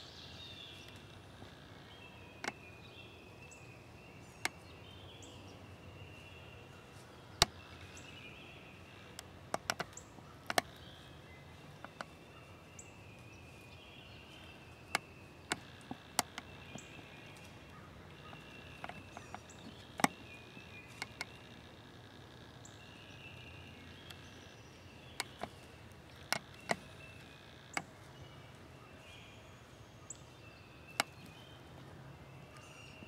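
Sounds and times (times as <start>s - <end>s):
birdsong: 0.0s - 33.0s
outdoor hush: 0.0s - 33.0s.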